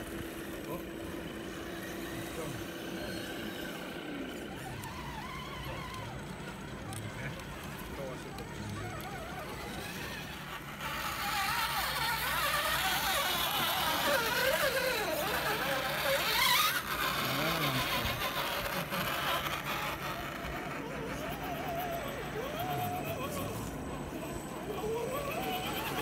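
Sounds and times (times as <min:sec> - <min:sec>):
rc car electric motor whining: 0:00.0 - 0:26.0.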